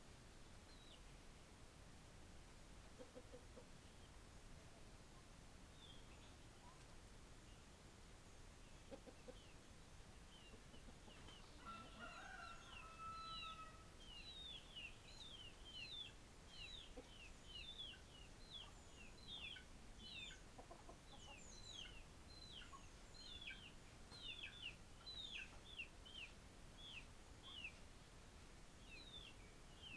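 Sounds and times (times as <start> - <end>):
chickens calling faintly: 2.8 - 7.2, 8.5 - 29.9.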